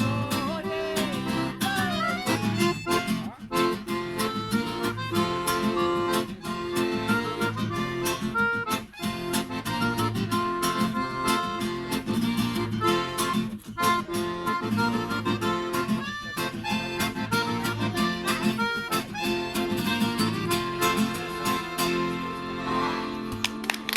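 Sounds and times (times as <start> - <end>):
reed instrument melody: 0.0 - 23.9
strummed acoustic guitar: 0.0 - 23.9.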